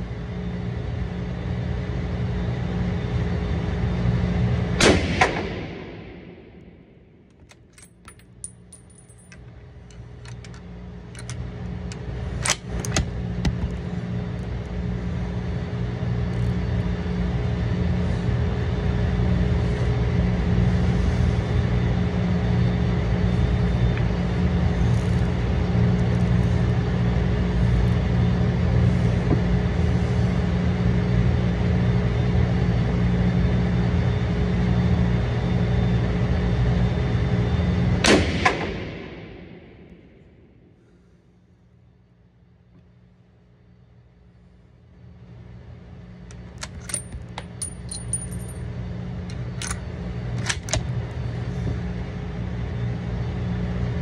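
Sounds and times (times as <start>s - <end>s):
ventilation fans humming: 0.0s - 54.0s.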